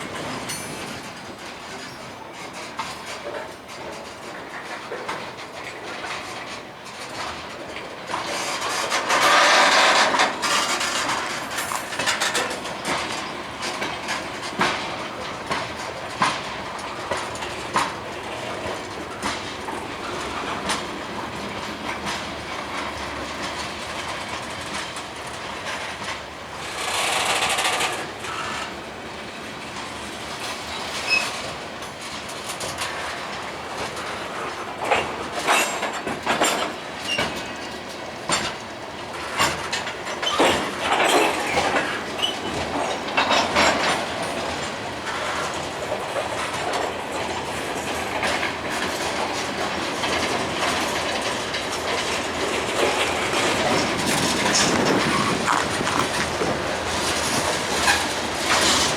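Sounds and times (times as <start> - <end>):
train wheels clacking over rail joints: 0.0 - 58.9.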